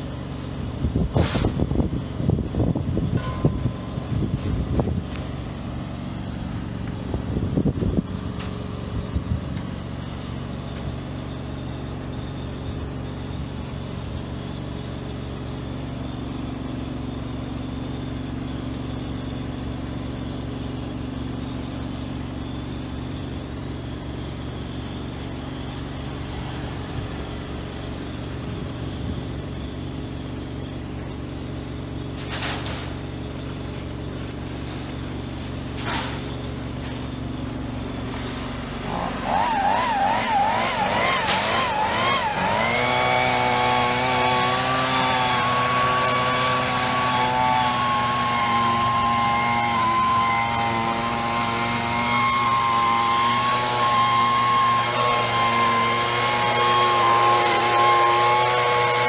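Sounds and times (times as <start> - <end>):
idling truck engine hum: 0.0 - 53.9.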